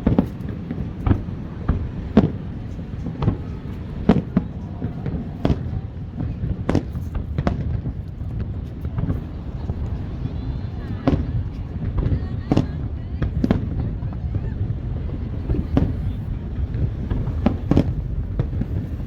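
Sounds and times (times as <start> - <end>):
fireworks bursting: 0.0 - 19.0
low rumble of explosions: 0.0 - 19.0.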